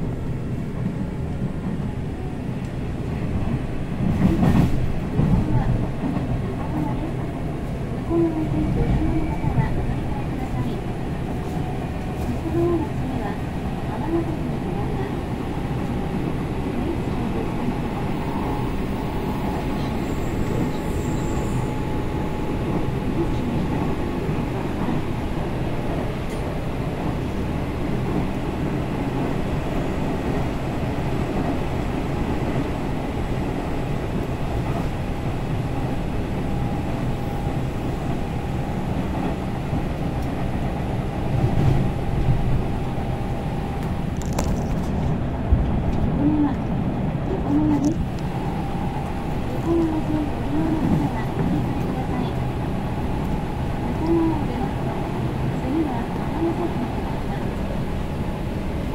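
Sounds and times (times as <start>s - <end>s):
train running rumble: 0.0s - 58.9s.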